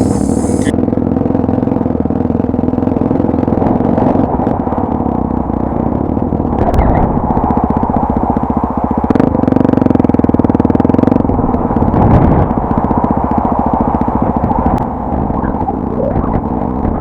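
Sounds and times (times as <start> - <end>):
motorcycle engine under throttle: 0.0 - 17.0.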